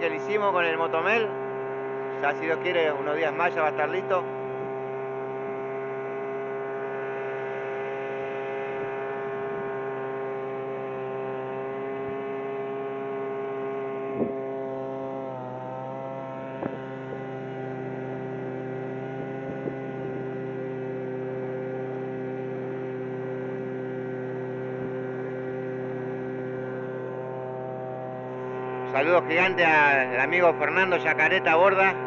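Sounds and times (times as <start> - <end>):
boat motor running with whine: 0.0 - 32.0.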